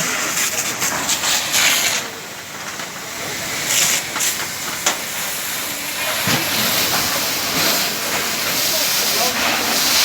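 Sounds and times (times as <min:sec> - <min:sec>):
loud hissing rush: 0:00.0 - 0:10.0.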